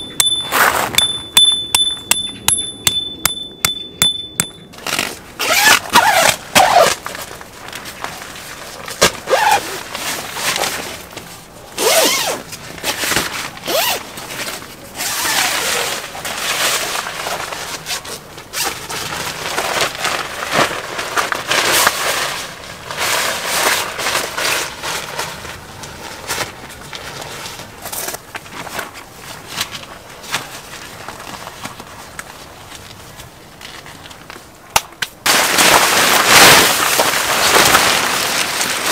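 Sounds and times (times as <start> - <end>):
tent fabric rustling and flapping: 4.8 - 34.2, 35.2 - 38.9.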